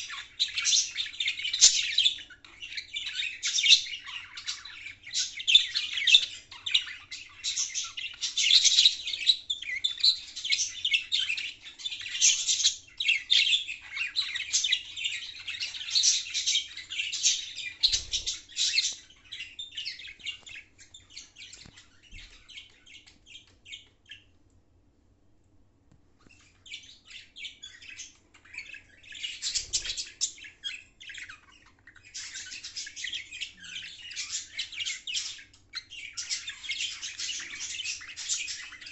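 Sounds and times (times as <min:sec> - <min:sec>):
budgerigars chirping: 0:00.0 - 0:24.3, 0:26.3 - 0:38.9.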